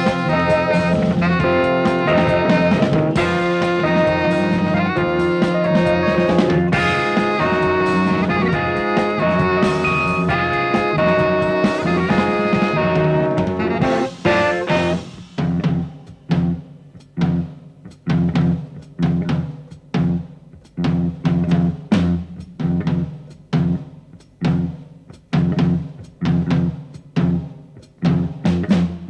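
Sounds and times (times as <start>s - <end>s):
drums and bass accented hits: 0.0s - 29.0s
jazz fusion band chords: 0.0s - 29.0s.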